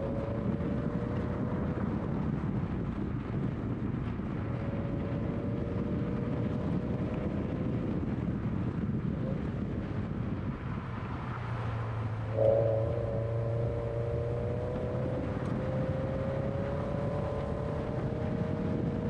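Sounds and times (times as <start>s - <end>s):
car engine running: 0.0s - 19.0s
wind noise: 0.0s - 19.0s.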